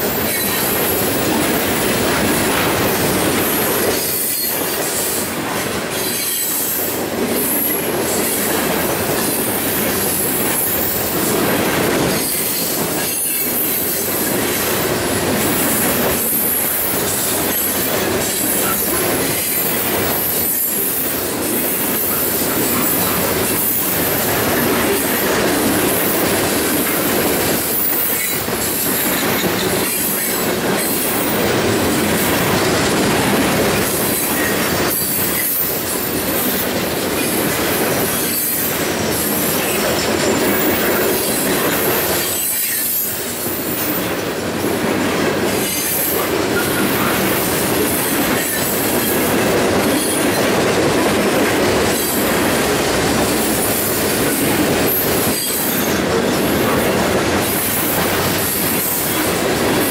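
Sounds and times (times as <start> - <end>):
freight train wheels clattering on rails: 0.0 - 59.9.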